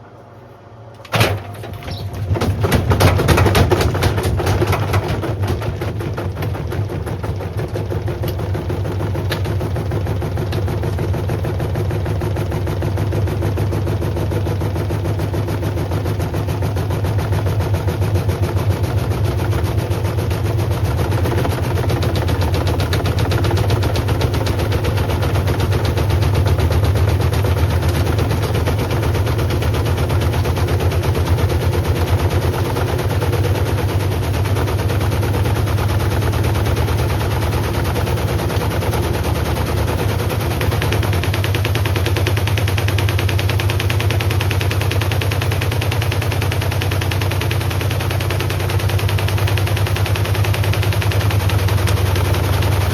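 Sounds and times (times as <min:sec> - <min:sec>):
washing machine motor hum: 0:00.0 - 0:52.9.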